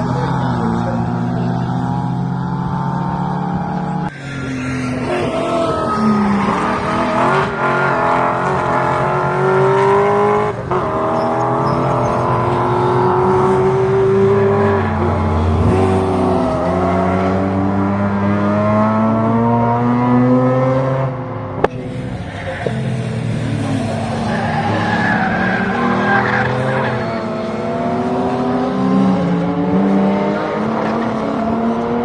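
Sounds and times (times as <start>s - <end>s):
racing car engines revving: 0.0s - 32.0s.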